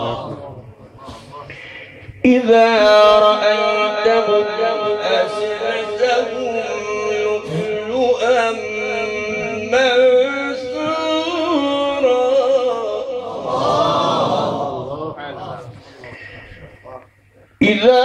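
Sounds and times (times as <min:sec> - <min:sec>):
man reciting melodically: 0:00.0 - 0:13.9, 0:14.5 - 0:18.0.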